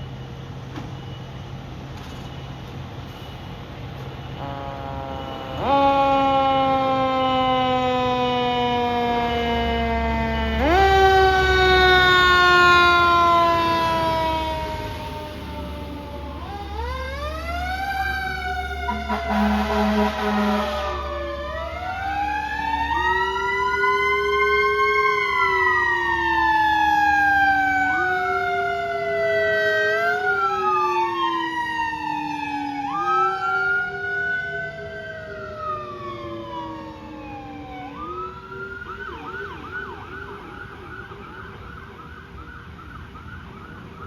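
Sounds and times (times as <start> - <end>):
emergency sirens wailing and yelping: 0.0 - 44.0.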